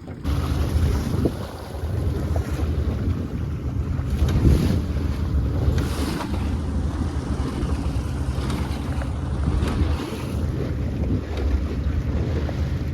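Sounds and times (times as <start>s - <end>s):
sea water washing around boat: 0.0s - 12.9s
wind buffeting microphone: 0.0s - 12.9s.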